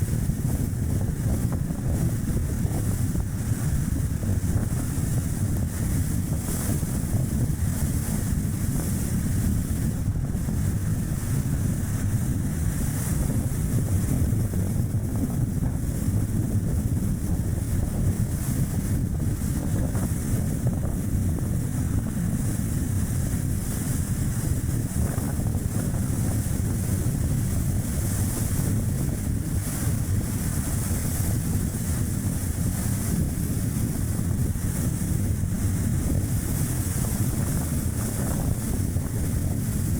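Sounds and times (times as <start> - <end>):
car tyre and road noise: 0.0 - 39.9
wind buffeting microphone: 0.0 - 39.9.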